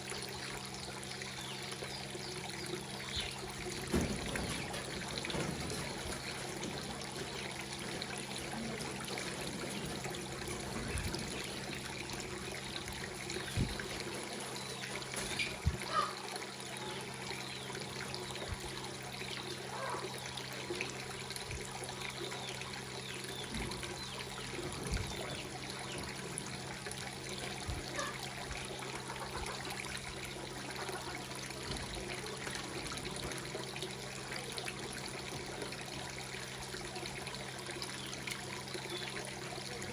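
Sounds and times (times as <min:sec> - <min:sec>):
low steady hum: 0:00.0 - 0:39.9
water splashes: 0:00.0 - 0:39.9
water trickling: 0:00.0 - 0:39.9.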